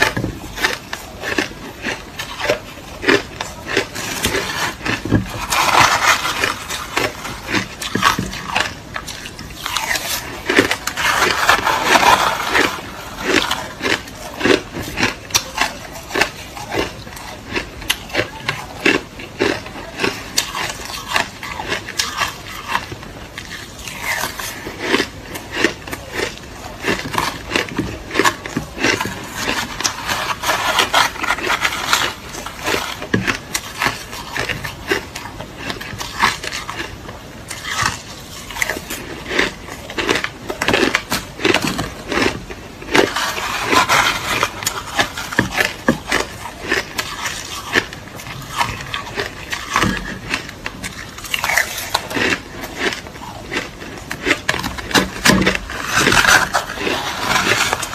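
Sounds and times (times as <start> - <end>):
crushed ice being chewed: 0.0 - 57.9.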